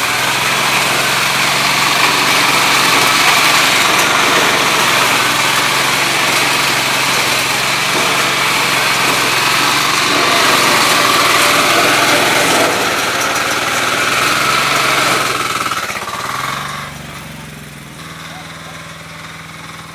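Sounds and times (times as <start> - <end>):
machine engine running with rattling: 0.0 - 19.9.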